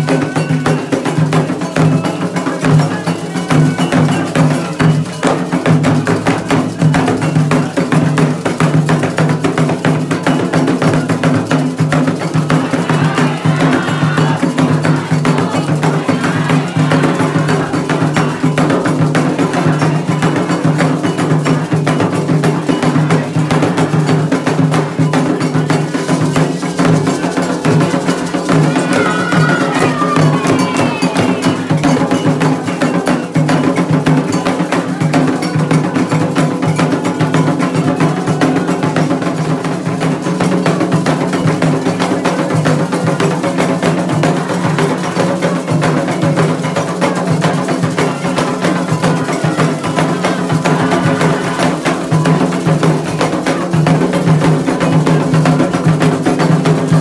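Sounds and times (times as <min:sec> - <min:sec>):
hand drums: 0:00.0 - 0:57.0
metal bell rhythm: 0:00.0 - 0:57.0.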